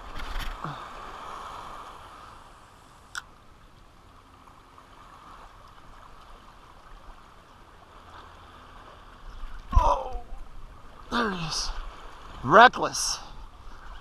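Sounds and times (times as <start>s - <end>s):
water lapping gently: 0.0s - 14.0s.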